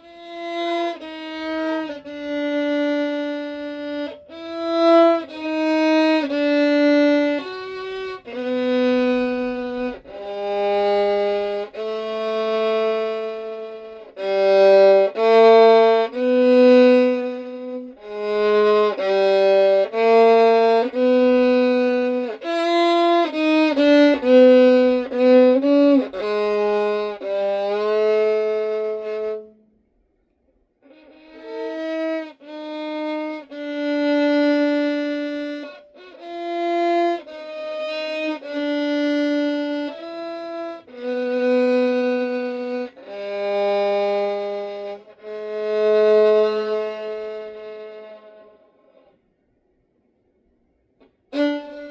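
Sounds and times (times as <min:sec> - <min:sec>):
solo violin with bow: 0:00.0 - 0:49.3, 0:50.8 - 0:51.9.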